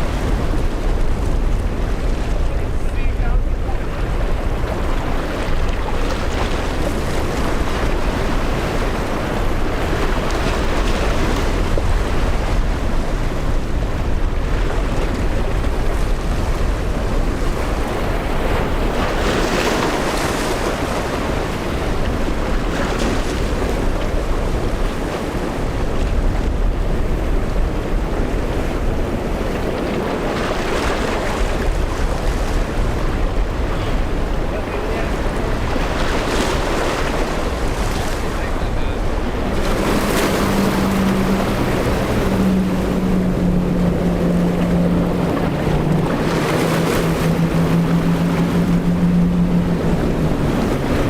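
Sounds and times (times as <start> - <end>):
rough surf: 0.0 - 51.0
wind buffeting microphone: 0.0 - 51.0.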